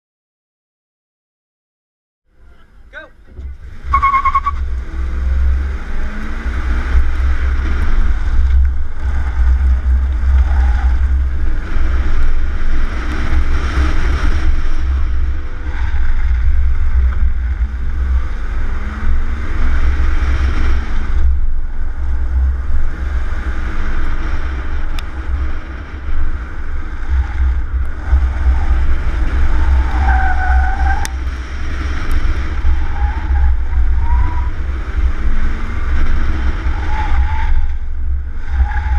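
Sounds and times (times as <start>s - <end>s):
car engine revving: 2.4s - 38.9s
tires squealing: 2.4s - 38.9s
wind rumble on microphone: 3.3s - 38.9s.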